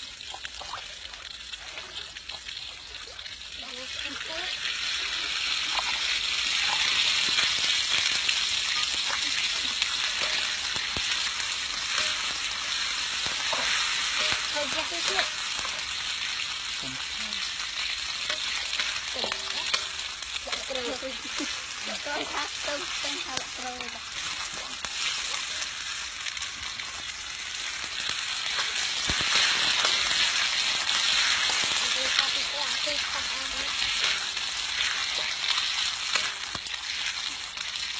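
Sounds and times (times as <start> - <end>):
food frying sizzle: 0.0 - 37.9.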